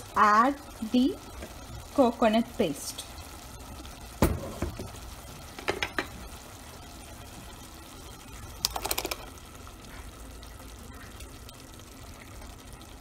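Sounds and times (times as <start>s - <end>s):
pot simmering hiss: 0.0s - 13.0s.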